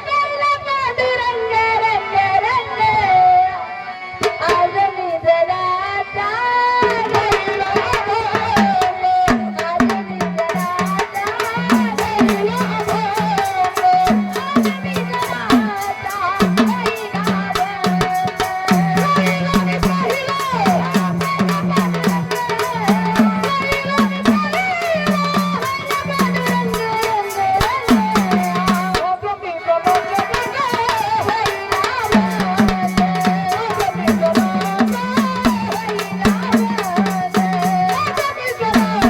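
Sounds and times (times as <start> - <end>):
hand drums: 6.8 - 29.2, 29.8 - 39.0.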